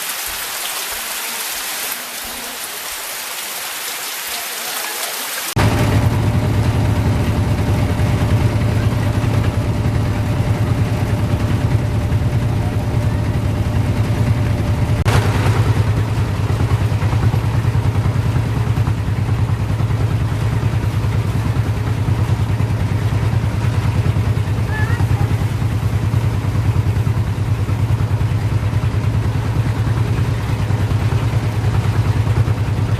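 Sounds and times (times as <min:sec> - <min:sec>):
small engine running: 0:05.6 - 0:32.9.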